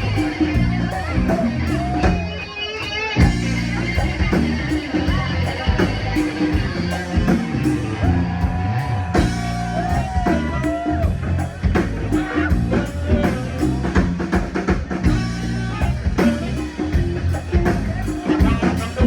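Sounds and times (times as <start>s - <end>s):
drum rimshots: 0.0s - 19.0s
live band playing: 0.0s - 19.0s.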